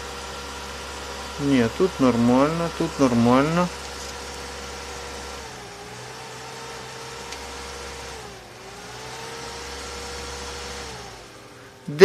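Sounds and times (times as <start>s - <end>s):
cooling fan humming: 0.0s - 12.0s.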